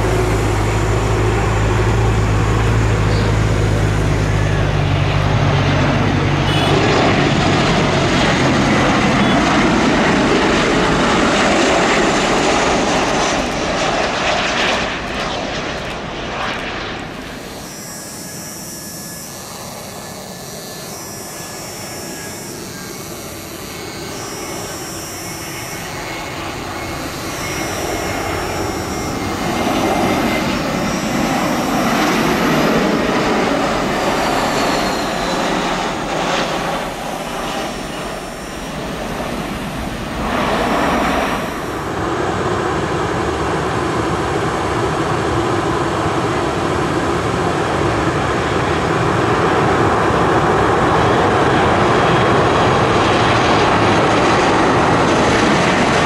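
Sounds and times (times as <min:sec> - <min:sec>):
jet airliner engines landing: 0:00.0 - 0:56.0.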